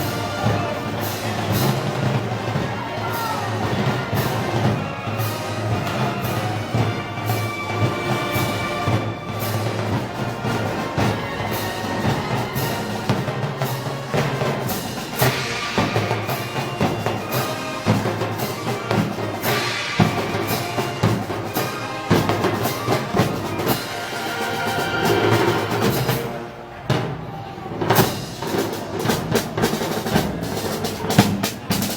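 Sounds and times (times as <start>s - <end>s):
drums: 0.0s - 31.9s
festival band music: 0.0s - 31.9s.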